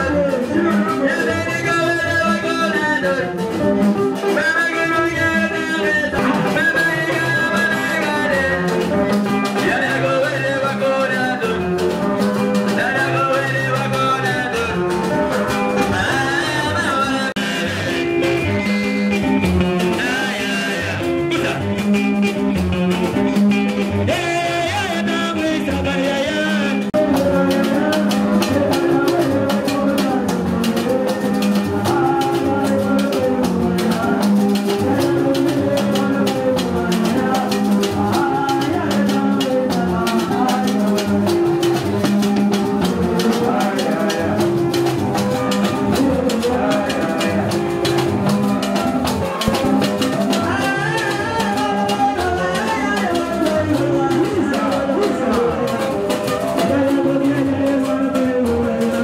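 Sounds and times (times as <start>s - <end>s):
person singing: 0.0s - 22.1s, 23.0s - 59.0s
fast drum rhythm: 0.0s - 59.0s.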